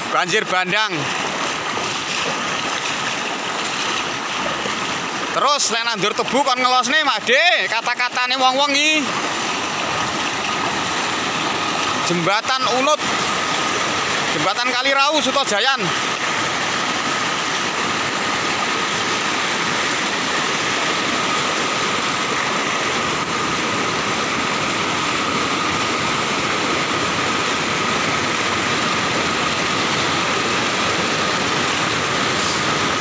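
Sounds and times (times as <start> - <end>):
flood water rushing: 0.0 - 33.0.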